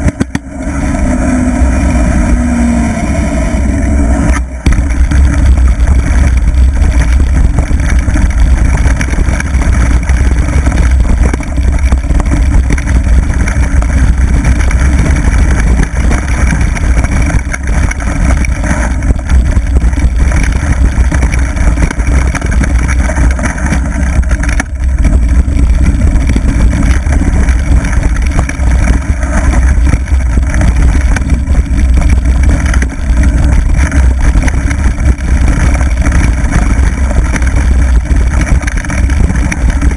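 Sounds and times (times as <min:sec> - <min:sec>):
wind buffeting microphone: 0:00.0 - 0:39.9
tyres rolling over gravel: 0:03.9 - 0:39.9.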